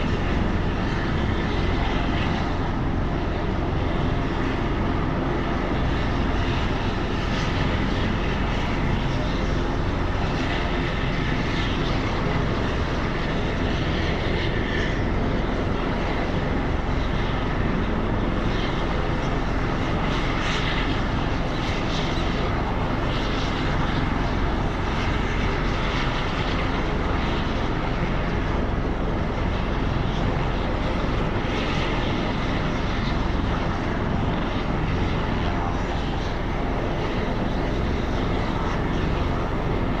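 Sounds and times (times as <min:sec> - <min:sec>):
helicopter turbine and rotor: 0:00.0 - 0:40.0.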